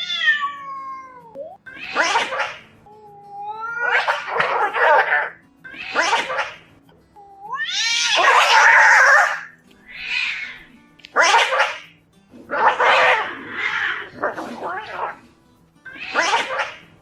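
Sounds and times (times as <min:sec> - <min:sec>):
cats yowling and hissing: 0:00.0 - 0:06.7, 0:07.3 - 0:15.2, 0:15.9 - 0:16.9.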